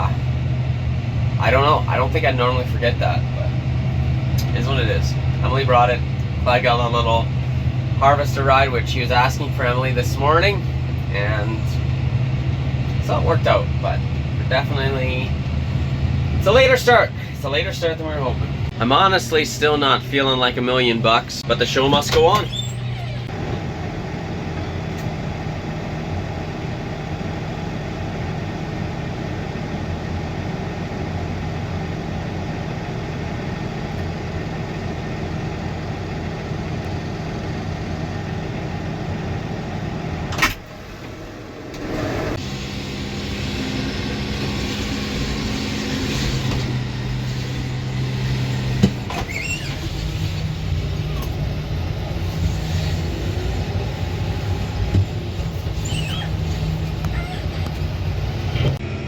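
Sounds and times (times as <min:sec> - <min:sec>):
heavy machinery engine running: 0:00.0 - 0:59.0.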